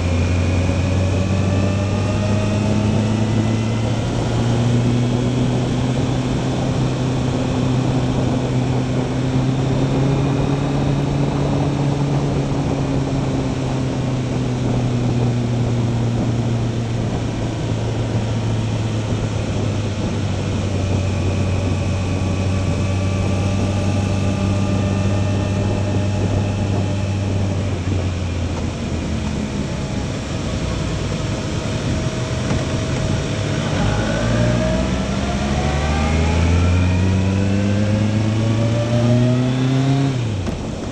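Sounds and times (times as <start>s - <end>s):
motorcycle engine running: 0.0s - 40.9s
tyres on wet road: 0.0s - 40.9s
wind noise: 0.0s - 40.9s.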